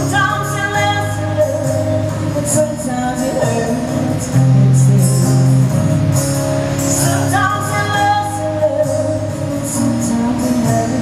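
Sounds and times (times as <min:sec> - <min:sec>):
woman singing into a microphone: 0:00.0 - 0:06.0, 0:06.8 - 0:11.0.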